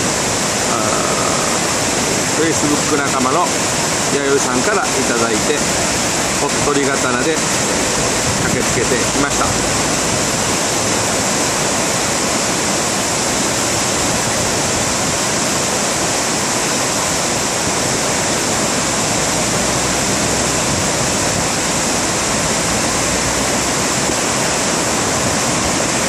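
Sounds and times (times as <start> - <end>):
floodwater rushing down a channel: 0.0 - 26.0.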